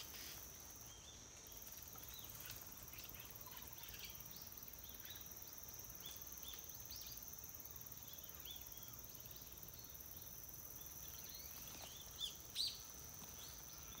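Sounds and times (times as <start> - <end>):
high insect drone: 0.0 - 14.0
small birds chirping: 0.0 - 14.0.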